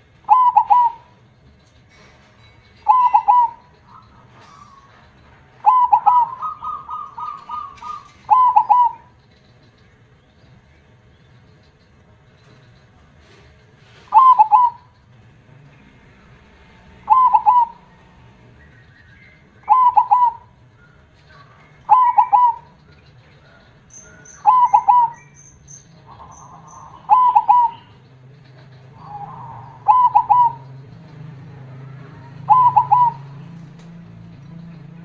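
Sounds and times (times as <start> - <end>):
dove cooing song: 0.0 - 1.6, 2.7 - 9.3, 13.8 - 15.2, 16.2 - 35.0.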